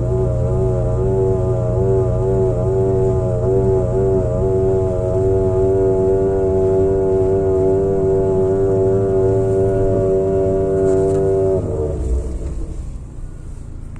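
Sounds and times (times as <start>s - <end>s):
machine mechanical drone: 0.0s - 13.9s.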